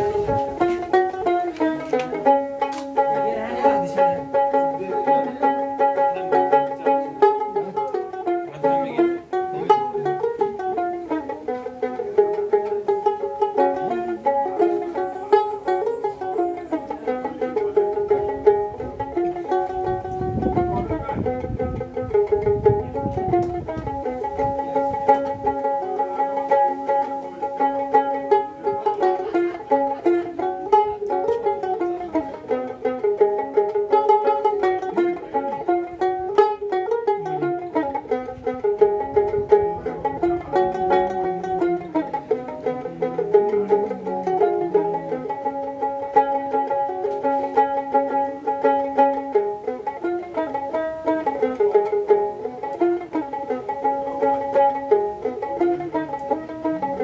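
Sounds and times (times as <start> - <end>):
plucked lute melody: 0.0 - 57.0.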